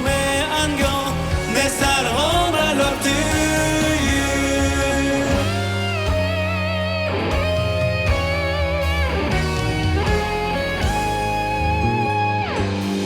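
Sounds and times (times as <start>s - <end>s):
band playing pop ballad: 0.0s - 13.0s
electric guitar vibrato melody: 0.0s - 13.0s.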